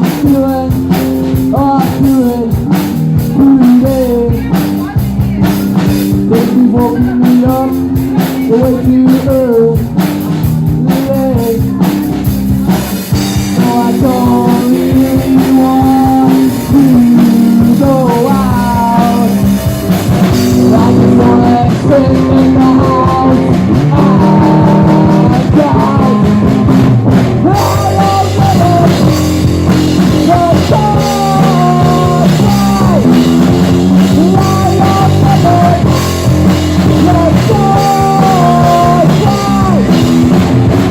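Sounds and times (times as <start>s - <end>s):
drum kit: 0.0s - 40.9s
electric guitar: 0.0s - 40.9s
person singing: 0.0s - 40.9s.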